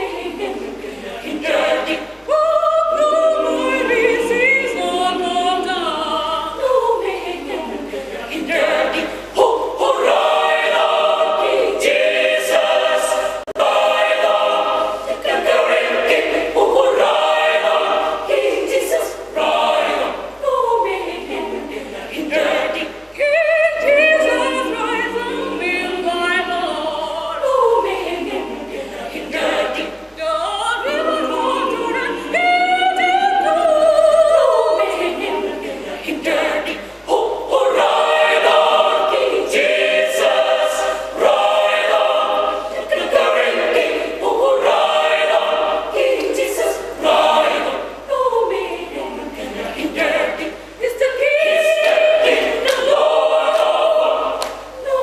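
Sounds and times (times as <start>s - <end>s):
mixed choir singing gospel: 0.0s - 55.0s.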